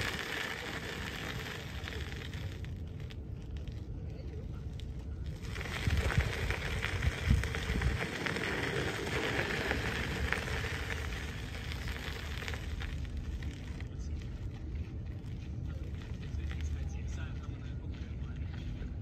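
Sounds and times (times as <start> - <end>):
tyres crunching on gravel: 0.0 - 3.9, 4.6 - 19.0
wind on microphone: 0.0 - 17.3.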